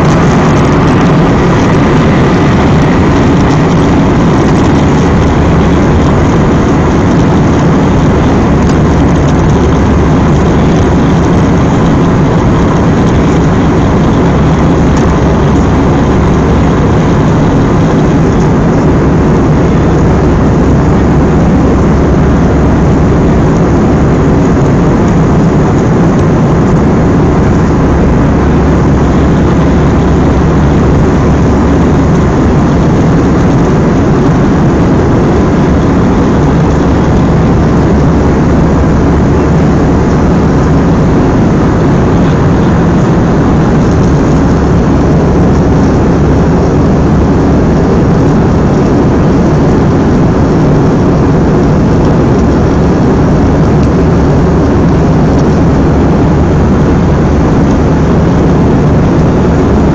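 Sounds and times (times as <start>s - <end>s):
jet engines roaring: 0.0s - 59.9s
rushing airflow: 0.0s - 59.9s.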